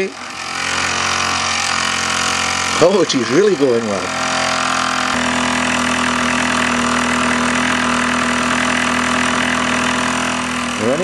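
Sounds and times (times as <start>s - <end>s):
toy steam engine whirring: 0.0s - 11.0s.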